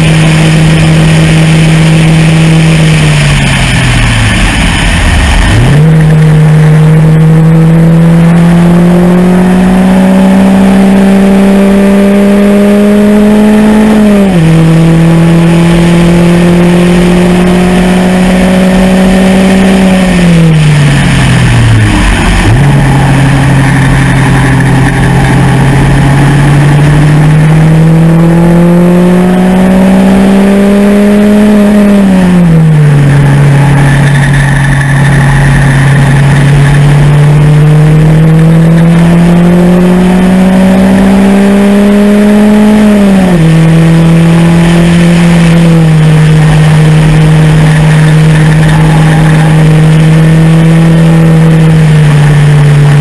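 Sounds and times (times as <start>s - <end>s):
race car engine at full throttle: 0.0s - 53.0s.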